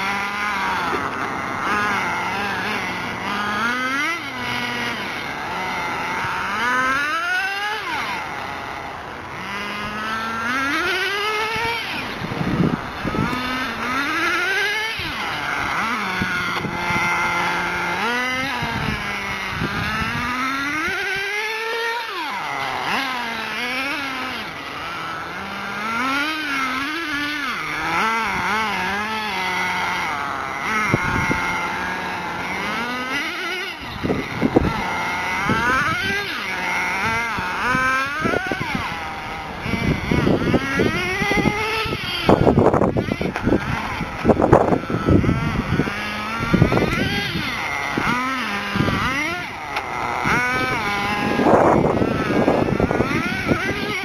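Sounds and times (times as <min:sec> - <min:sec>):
engine crackles: 0:00.0 - 0:54.0
rc car engine revving whine: 0:00.0 - 0:54.0.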